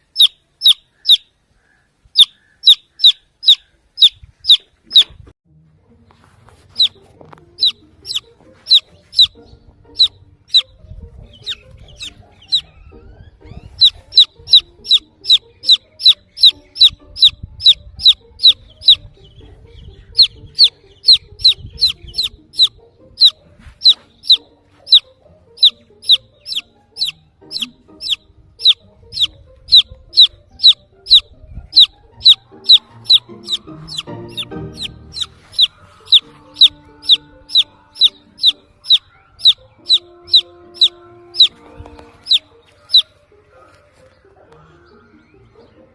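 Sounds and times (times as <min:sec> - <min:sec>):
chick peeping: 0:00.0 - 0:01.3, 0:02.1 - 0:05.3, 0:06.7 - 0:07.0, 0:07.6 - 0:43.2.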